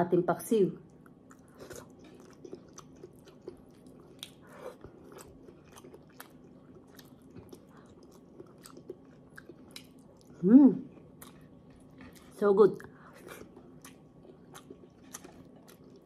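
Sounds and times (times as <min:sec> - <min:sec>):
chewing mouth clicks and smacks: 0:01.3 - 0:10.3, 0:11.2 - 0:16.0.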